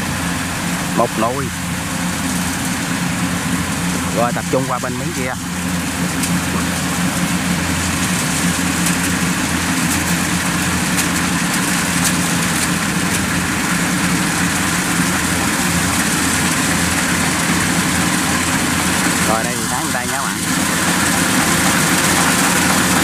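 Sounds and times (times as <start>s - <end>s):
diesel engine drone: 0.0s - 23.0s
threshing machinery hum: 0.0s - 23.0s.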